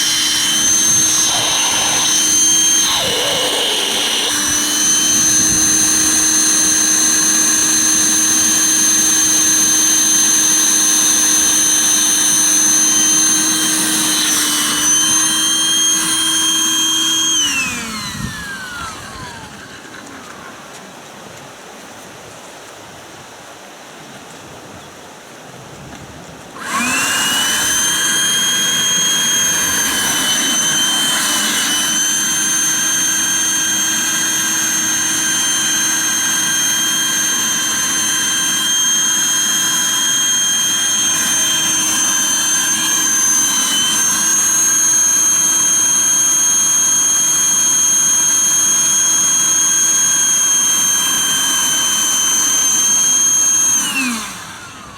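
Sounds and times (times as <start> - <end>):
electric air pump whining: 0.0 - 21.4, 26.6 - 54.9.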